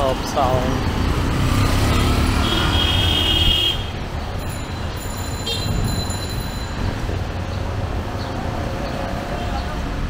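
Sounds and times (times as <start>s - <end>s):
rumble of passing vehicles: 0.0s - 10.0s.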